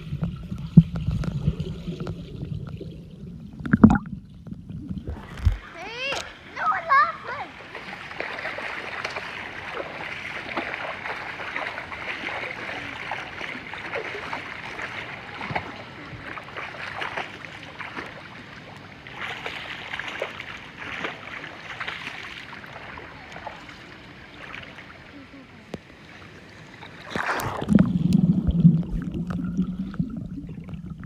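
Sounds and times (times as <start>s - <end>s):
pool water splashing: 0.0s - 31.0s.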